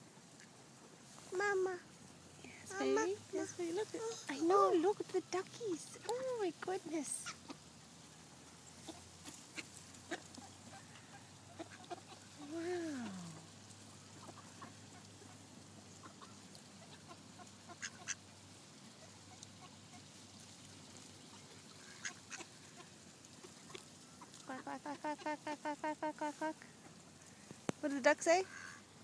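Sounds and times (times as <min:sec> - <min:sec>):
faint clicks and rustles: 0:00.2 - 0:29.0.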